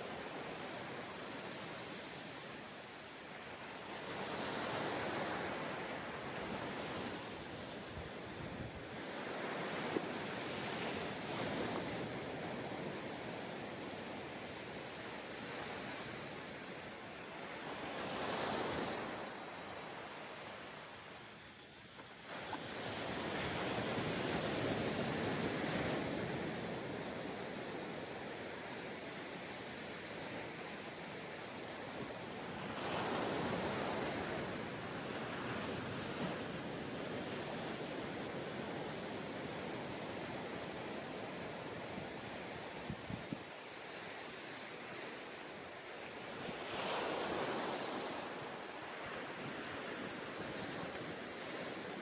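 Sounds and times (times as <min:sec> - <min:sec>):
ocean waves on sandy beach: 0:00.0 - 0:52.0.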